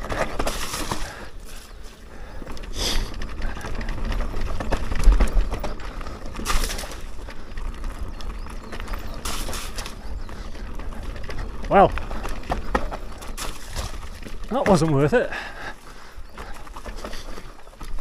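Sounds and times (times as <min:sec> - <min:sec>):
bike tyres on dirt: 0:00.0 - 0:18.0.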